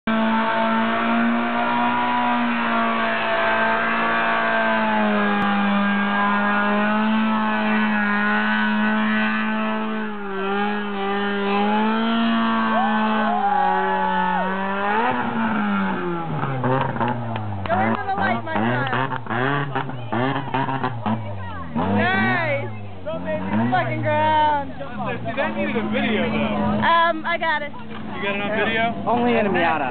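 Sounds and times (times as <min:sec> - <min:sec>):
car engine revving high: 0:00.0 - 0:29.9
tyres squealing on asphalt: 0:00.1 - 0:29.9.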